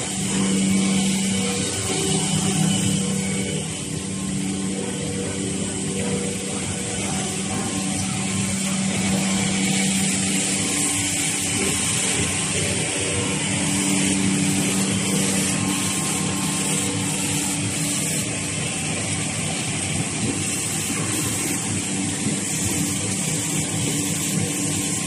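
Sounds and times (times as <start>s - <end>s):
low even hum: 0.0s - 25.0s
production line mechanical din: 0.0s - 25.0s.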